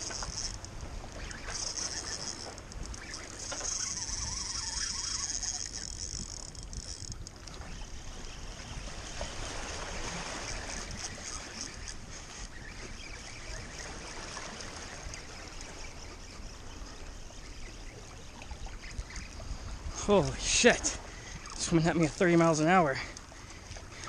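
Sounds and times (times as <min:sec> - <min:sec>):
wind rumbling on microphone: 0:00.0 - 0:22.4.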